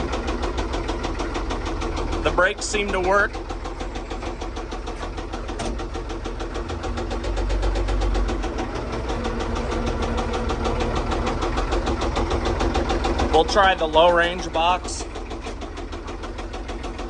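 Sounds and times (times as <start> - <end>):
tractor engine knocking: 0.0 - 17.0.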